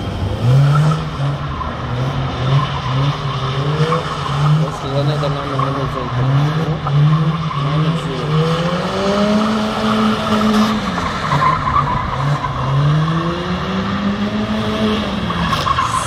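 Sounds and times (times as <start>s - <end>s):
car engine at high revs: 0.0s - 16.0s
tire squeal: 0.2s - 16.0s.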